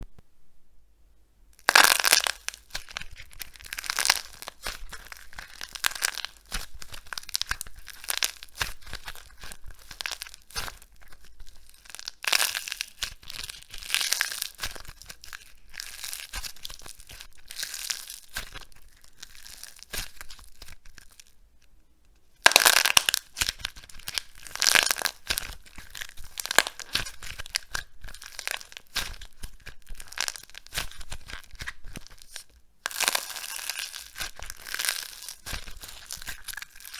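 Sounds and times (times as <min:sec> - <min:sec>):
dry soap crackling and crunching: 0:01.6 - 0:21.7, 0:22.3 - 0:36.9.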